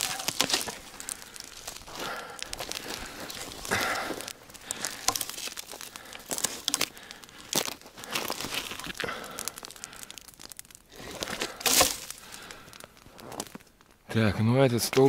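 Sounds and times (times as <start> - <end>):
footsteps crunching in dry snow: 0.0 - 13.8
twigs crackling: 0.0 - 15.0.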